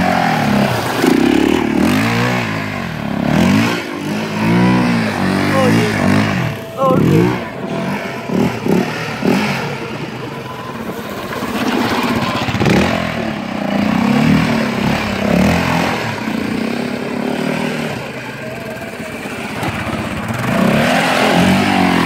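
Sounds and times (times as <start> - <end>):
quad engine revving: 0.0 - 22.0.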